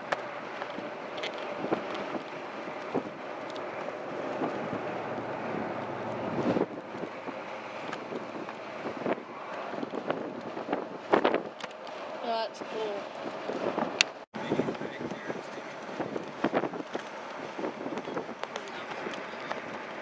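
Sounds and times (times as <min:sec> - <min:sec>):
vehicles driving by: 0:00.0 - 0:20.0
wind on microphone: 0:00.0 - 0:20.0.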